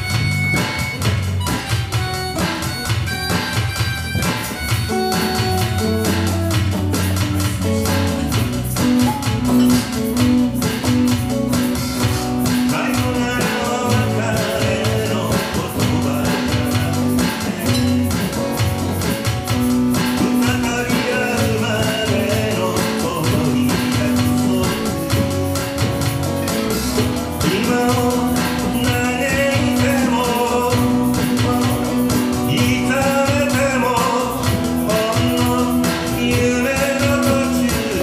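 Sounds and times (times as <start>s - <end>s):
electric bass: 0.0s - 38.0s
electronic drum kit beat: 0.0s - 38.0s
man singing: 0.0s - 38.0s
strummed acoustic guitar: 0.0s - 38.0s.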